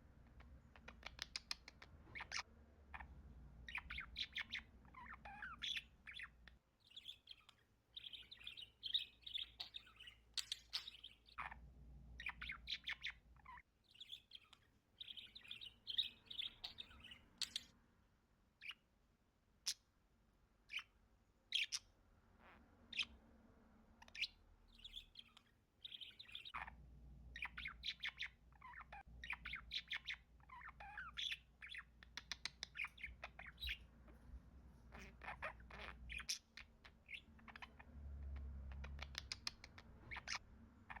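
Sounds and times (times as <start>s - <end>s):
parakeet chirping and chattering: 0.0s - 17.8s, 18.6s - 18.9s, 19.5s - 20.0s, 20.6s - 41.0s.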